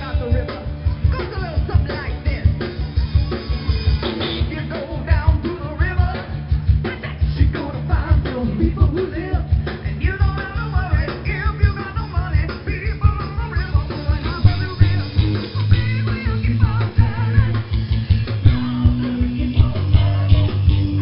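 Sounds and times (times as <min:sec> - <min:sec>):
person singing: 0:00.0 - 0:17.7, 0:18.4 - 0:21.0
live rock band playing: 0:00.0 - 0:21.0.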